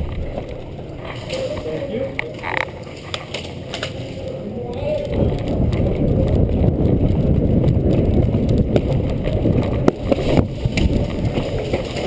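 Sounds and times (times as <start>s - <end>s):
camera movement rumble and buffeting: 0.0s - 12.0s.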